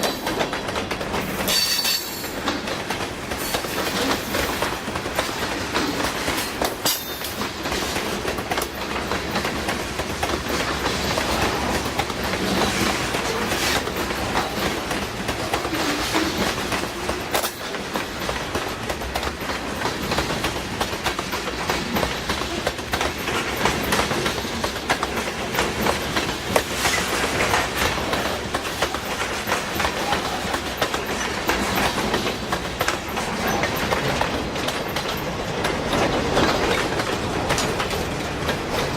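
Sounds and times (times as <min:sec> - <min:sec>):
train wheels clickety-clack: 0:00.0 - 0:38.9.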